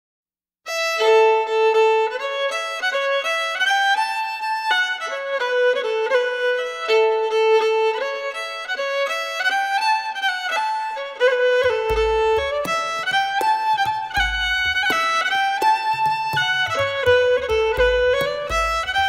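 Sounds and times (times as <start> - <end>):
solo fiddle playing: 0.7 - 19.0.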